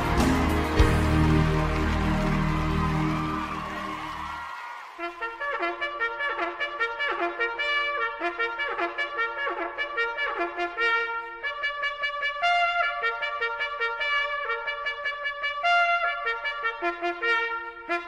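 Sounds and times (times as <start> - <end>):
brass music led by trumpet: 0.0 - 18.0.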